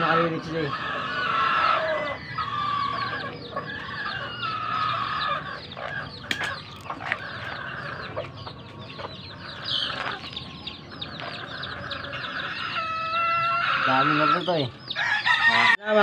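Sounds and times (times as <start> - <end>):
chicks peeping: 0.0 - 16.0
hens clucking: 0.0 - 16.0.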